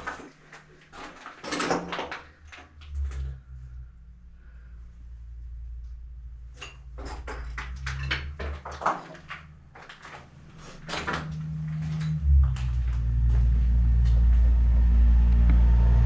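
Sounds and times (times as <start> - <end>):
low rumble: 2.4 - 16.0.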